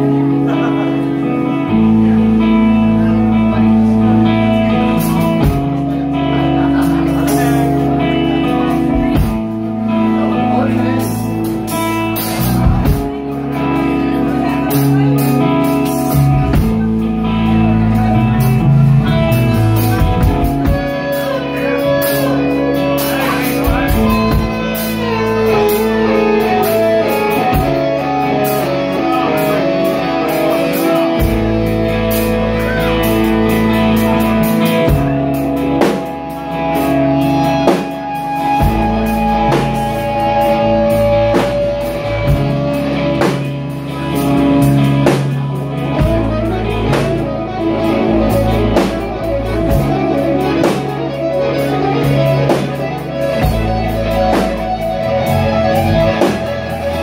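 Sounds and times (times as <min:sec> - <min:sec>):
bass guitar: 0:00.0 - 0:57.0
electric guitars strumming chords: 0:00.0 - 0:57.0
drum kit steady beat: 0:04.7 - 0:57.0.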